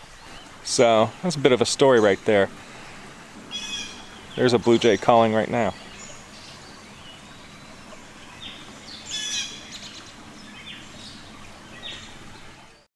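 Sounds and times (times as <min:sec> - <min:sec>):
blue jay calling: 0:01.9 - 0:12.6.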